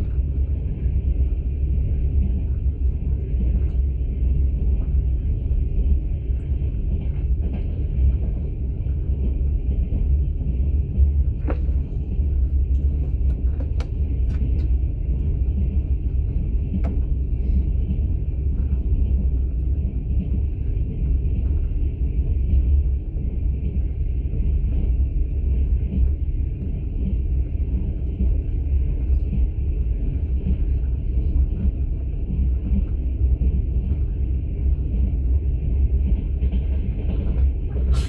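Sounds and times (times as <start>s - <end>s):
train rumbling inside carriage: 0.0s - 38.0s.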